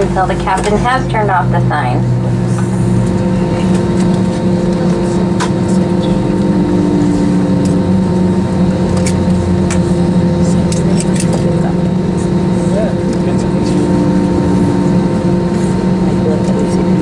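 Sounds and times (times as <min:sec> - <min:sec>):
jet engines idling hum: 0:00.0 - 0:17.0.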